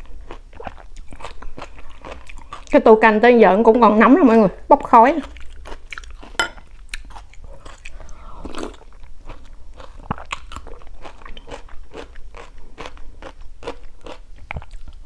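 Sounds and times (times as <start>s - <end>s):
wet chewing and mouth sounds: 0.0s - 2.8s, 5.2s - 15.0s.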